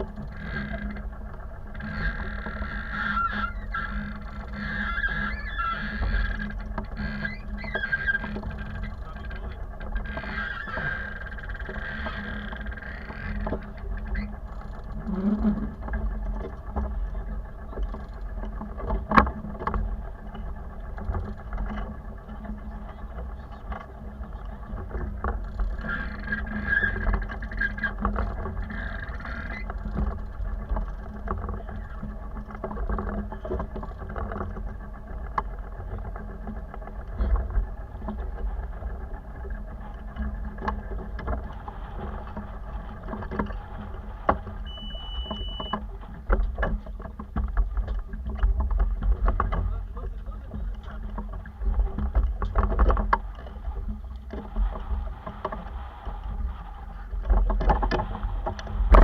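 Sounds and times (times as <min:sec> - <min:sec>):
water sloshing against hull: 0:00.0 - 0:59.0
wind rumble on microphone: 0:00.0 - 0:59.0.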